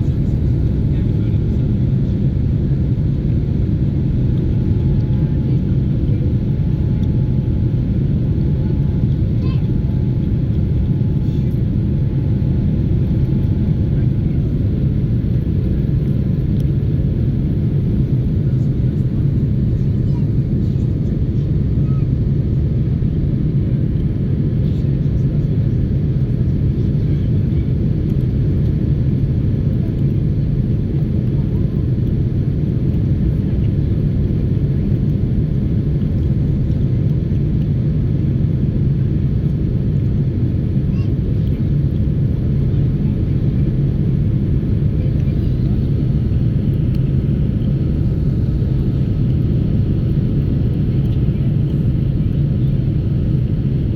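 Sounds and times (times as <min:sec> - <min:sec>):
jet engines rumbling in cabin: 0:00.0 - 0:53.9.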